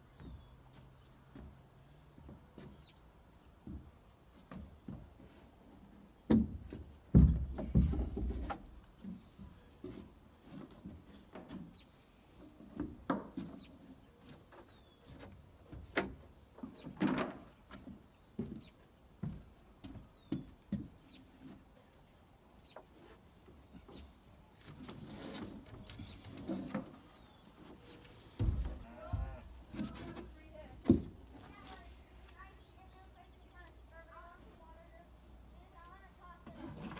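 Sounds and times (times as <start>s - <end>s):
footsteps on wooden deck: 0.0s - 34.8s
handling rope and timber: 0.0s - 36.9s.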